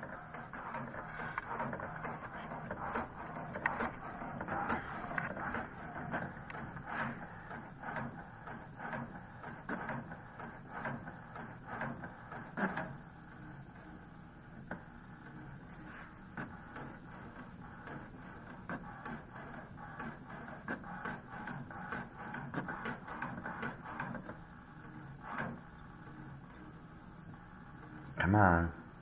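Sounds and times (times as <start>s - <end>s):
print carriage clicking: 0.0s - 13.4s, 16.3s - 26.2s
inkjet printer printing: 0.0s - 29.0s.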